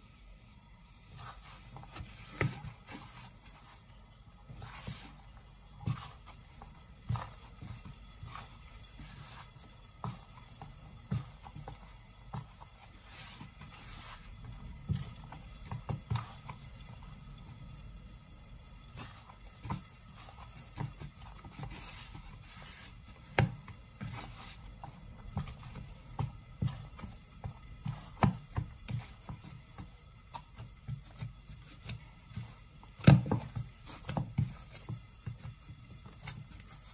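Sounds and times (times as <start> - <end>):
dough thumping in a bowl: 1.2 - 36.9.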